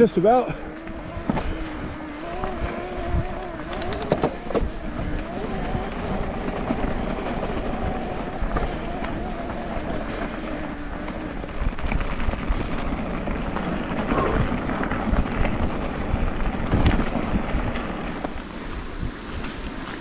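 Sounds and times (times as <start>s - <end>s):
bike tyres and frame rattling: 0.0s - 20.0s
wind buffeting microphone: 0.0s - 20.0s.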